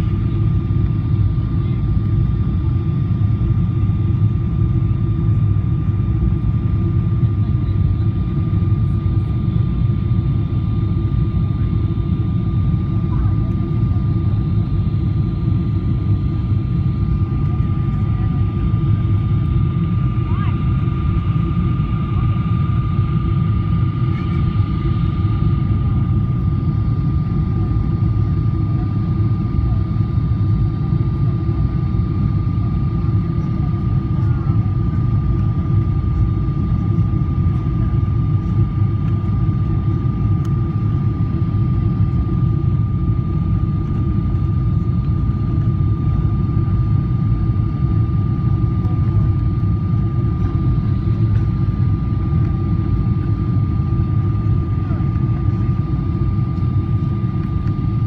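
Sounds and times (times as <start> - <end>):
low rumble of engines and airflow: 0.0 - 58.0
thin steady whine: 0.0 - 58.0.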